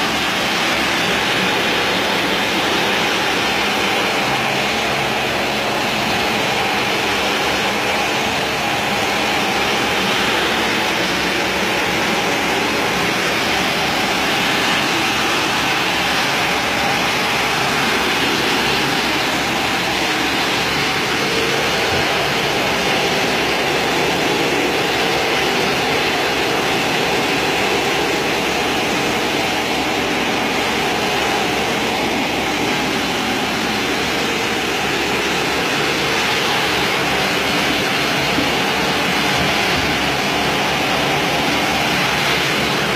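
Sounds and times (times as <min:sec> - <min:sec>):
water spray and vacuum roar: 0:00.0 - 0:42.9.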